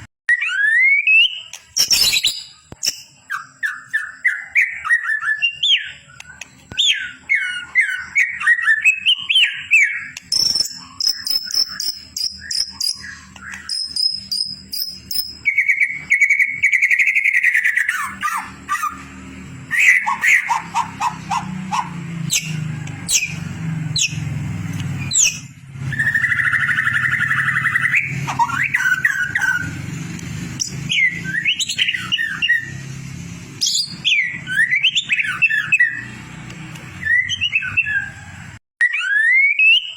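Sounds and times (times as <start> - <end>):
songbird singing: 0.3 - 39.9.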